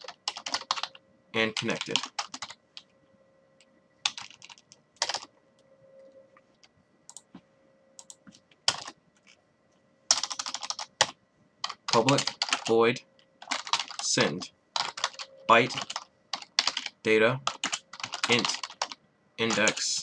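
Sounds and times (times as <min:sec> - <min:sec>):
keyboard typing: 0:00.0 - 0:02.9, 0:04.0 - 0:05.4, 0:06.0 - 0:07.3, 0:08.0 - 0:09.4, 0:10.1 - 0:12.8, 0:13.4 - 0:20.0.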